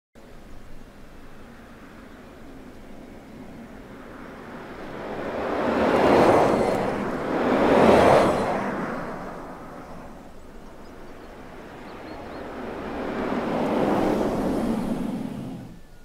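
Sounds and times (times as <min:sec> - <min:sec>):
rushing air: 0:00.9 - 0:16.0.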